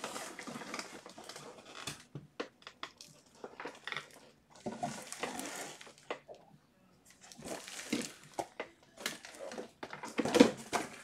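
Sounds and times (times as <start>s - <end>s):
rustling of small objects: 0.0s - 6.4s, 7.1s - 11.0s.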